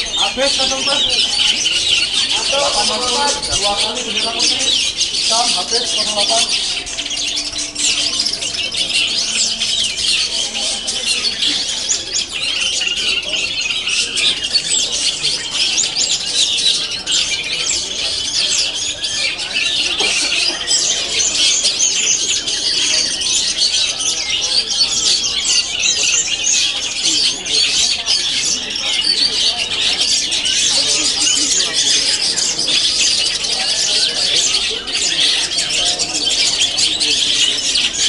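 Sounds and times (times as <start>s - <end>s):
shrikes calling: 0.0s - 38.0s.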